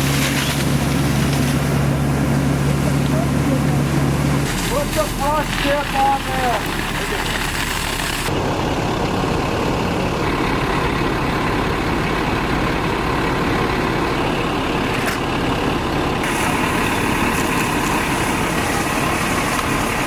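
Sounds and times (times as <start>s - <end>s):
fire engine idling: 0.0s - 20.0s.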